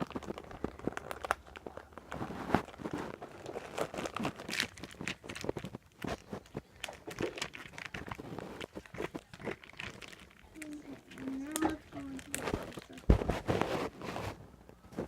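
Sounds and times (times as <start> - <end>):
paper and plastic crinkling: 0.0 - 15.0.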